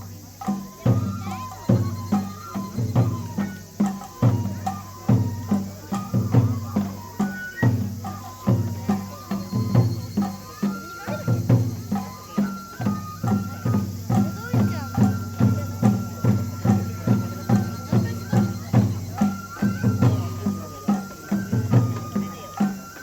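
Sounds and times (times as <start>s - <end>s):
drums beating steady rhythm: 0.0s - 23.0s
high held flute melody: 0.0s - 23.0s.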